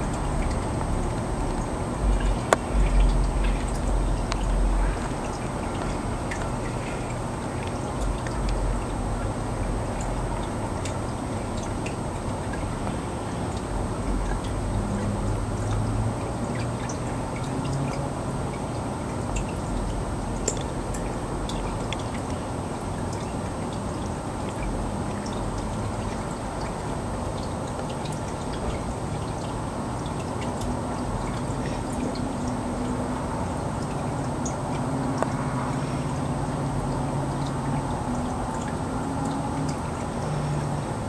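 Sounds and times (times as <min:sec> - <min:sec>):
aquarium water trickling: 0:00.0 - 0:41.0
faint drip-like clicks: 0:00.0 - 0:41.0.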